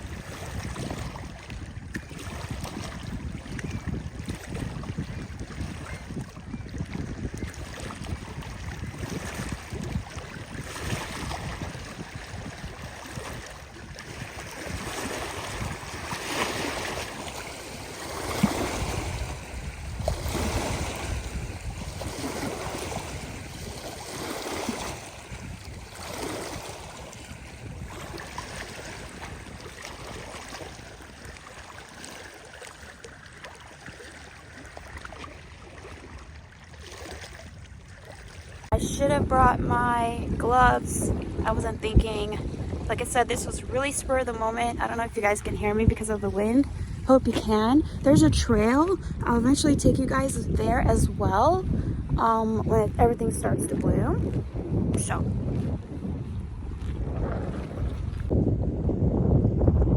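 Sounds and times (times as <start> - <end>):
lake waves washing ashore: 0.0 - 59.9
wind buffeting microphone: 0.0 - 59.9.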